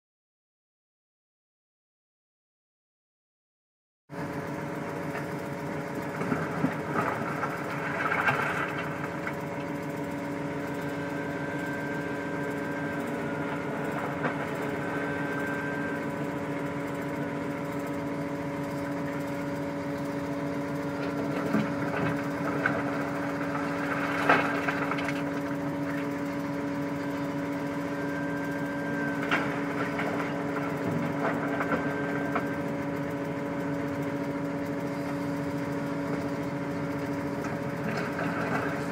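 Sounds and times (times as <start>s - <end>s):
heavy diesel engine running: 4.1s - 38.9s.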